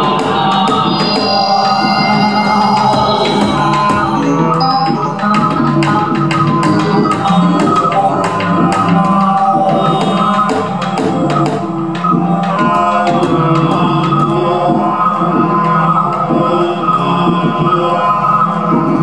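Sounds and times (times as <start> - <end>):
sustained electronic tones: 0.0 - 19.0.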